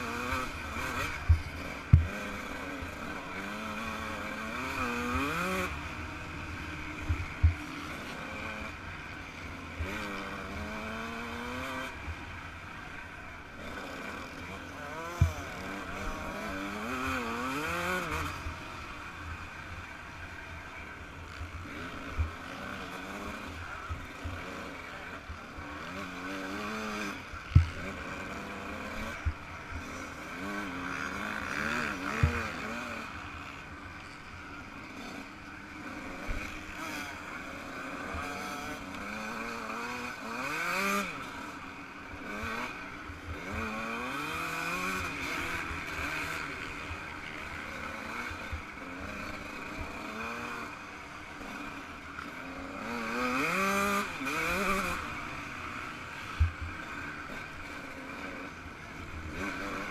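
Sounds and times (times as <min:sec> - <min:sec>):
two-stroke motocross engine revving: 0:00.0 - 0:59.9.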